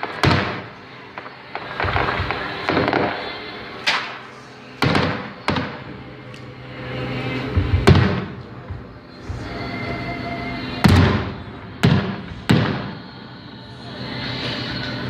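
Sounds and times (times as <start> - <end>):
fireworks bangs: 0.0 - 13.6.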